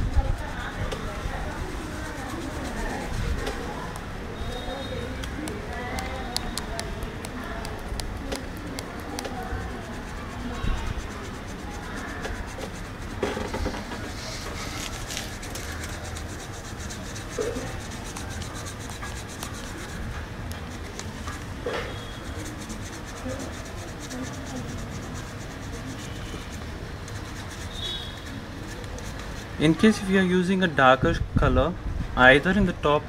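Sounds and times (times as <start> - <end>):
paintbrush rubbing on plastic bottle: 0.0 - 30.2.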